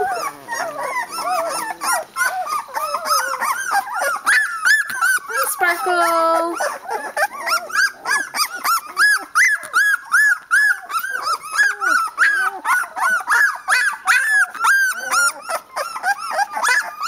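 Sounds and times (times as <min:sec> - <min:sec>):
puppies whimpering and squealing: 0:00.0 - 0:17.0.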